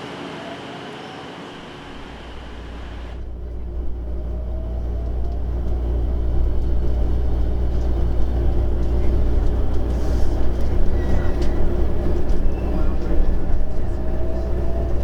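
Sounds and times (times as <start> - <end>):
electric train rumble inside carriage: 0.0 - 15.0.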